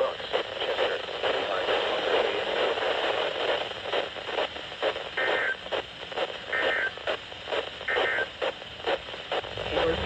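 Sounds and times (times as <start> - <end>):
crackles: 0.0 - 10.0
radio static hiss: 0.0 - 10.0.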